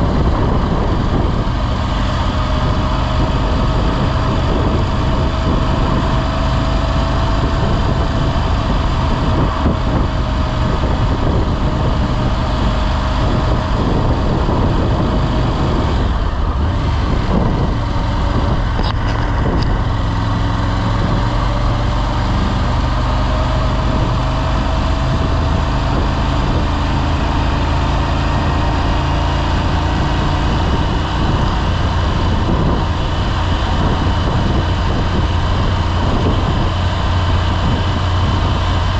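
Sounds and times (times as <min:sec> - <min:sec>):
motorcycle engine running: 0:00.0 - 0:38.9
road noise rush: 0:00.0 - 0:38.9.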